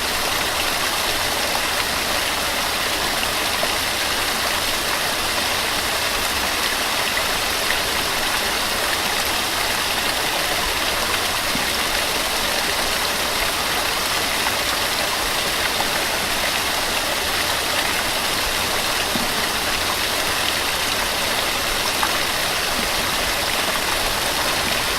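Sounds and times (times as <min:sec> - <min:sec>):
small waterfall splashing: 0:00.0 - 0:24.9.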